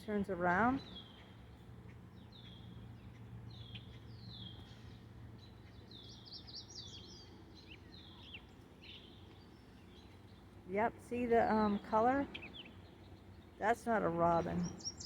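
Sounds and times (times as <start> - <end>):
faint low hum: 0.0 - 15.0
songbird chirping: 0.0 - 15.0.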